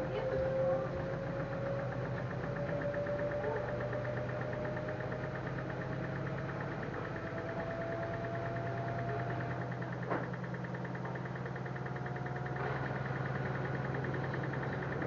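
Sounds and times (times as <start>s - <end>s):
motor whine: 0.0s - 15.0s
washing machine hum: 0.0s - 15.0s.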